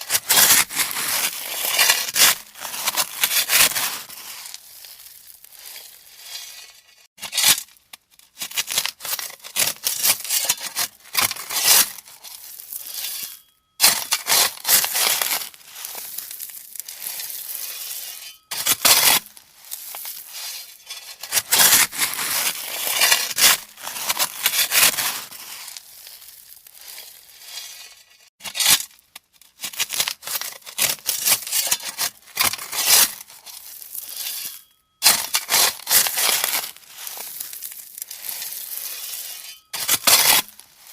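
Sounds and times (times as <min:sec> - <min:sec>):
shovel digging into gravel: 0:00.0 - 0:07.8, 0:08.4 - 0:29.0, 0:29.6 - 0:40.9.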